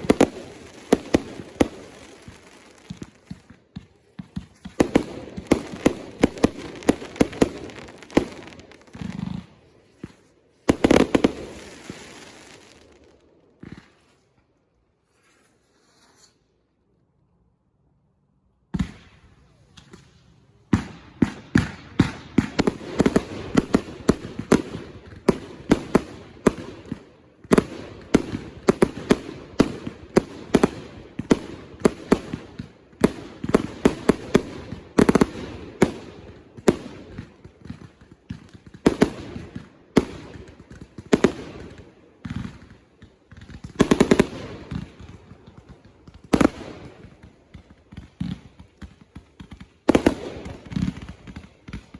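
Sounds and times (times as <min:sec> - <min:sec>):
fireworks bangs and crackle: 0:00.0 - 0:14.4, 0:18.7 - 0:51.9.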